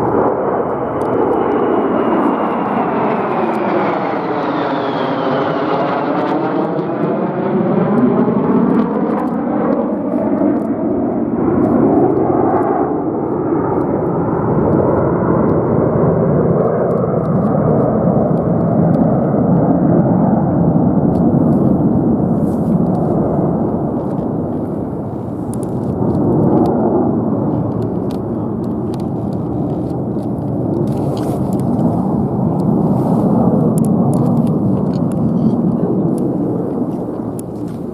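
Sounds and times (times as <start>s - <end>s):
fighter jets roaring past: 0.0s - 37.9s.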